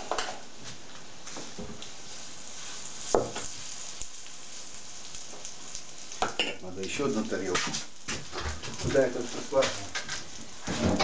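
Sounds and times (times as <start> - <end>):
pancakes sizzling in oil: 0.0 - 11.0.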